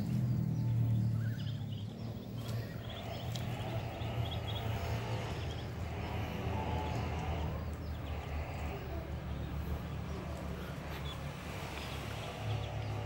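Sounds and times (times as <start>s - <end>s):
ducklings peeping: 0.0s - 13.0s
steady low hum: 0.0s - 13.0s.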